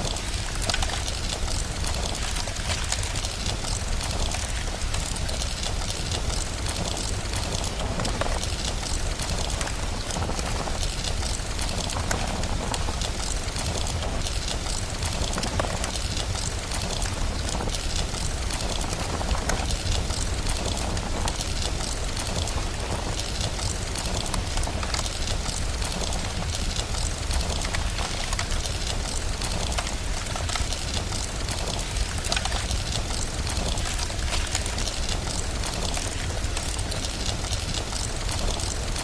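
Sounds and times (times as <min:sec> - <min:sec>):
steady rain hiss: 0:00.0 - 0:39.0
wood fire crackling: 0:00.0 - 0:39.0.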